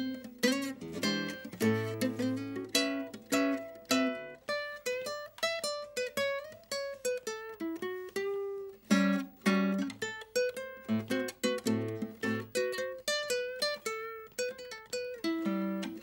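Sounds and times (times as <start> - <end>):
solo blues guitar: 0.0 - 16.0.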